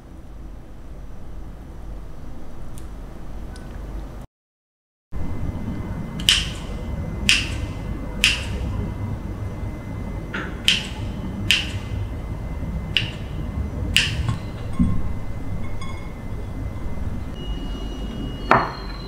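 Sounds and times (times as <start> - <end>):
low steady hum: 0.0 - 4.2, 5.2 - 19.0.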